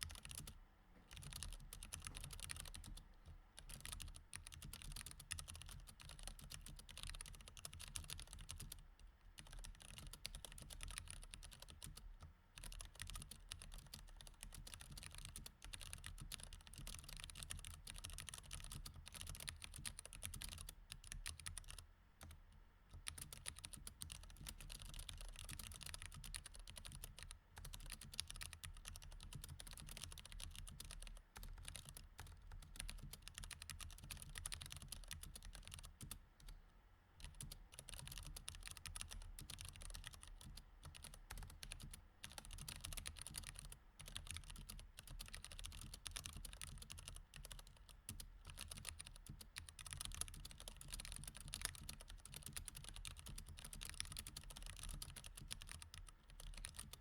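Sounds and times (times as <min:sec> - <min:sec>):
mechanical keyboard typing: 0:00.0 - 0:00.5, 0:01.1 - 0:03.0, 0:03.6 - 0:08.8, 0:09.4 - 0:36.2, 0:37.2 - 0:57.0.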